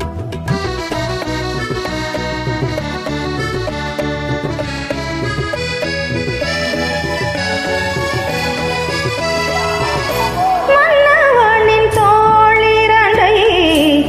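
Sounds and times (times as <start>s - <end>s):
instrumental film music: 0.0s - 13.5s.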